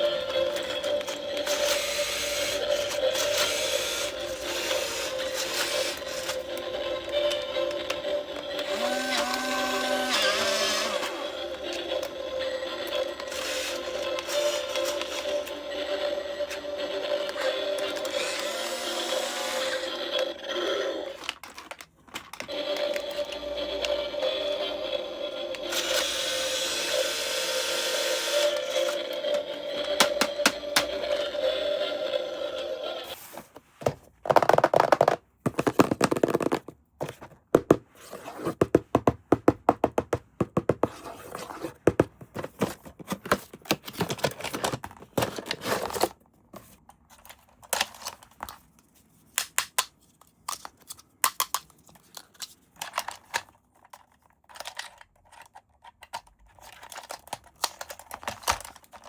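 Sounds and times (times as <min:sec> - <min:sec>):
plastic parts clicking and scraping: 0:00.0 - 0:12.2, 0:12.8 - 0:15.6, 0:20.9 - 0:24.0, 0:27.2 - 0:31.2, 0:33.1 - 0:59.0.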